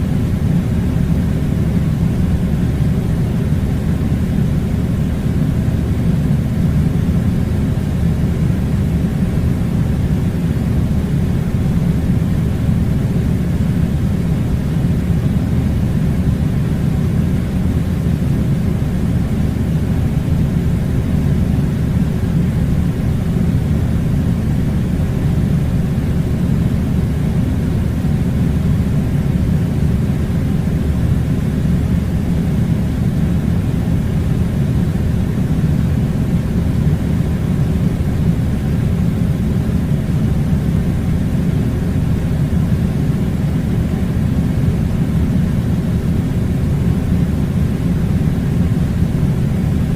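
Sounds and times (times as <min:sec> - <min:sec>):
air conditioning unit running: 0:00.0 - 0:49.9.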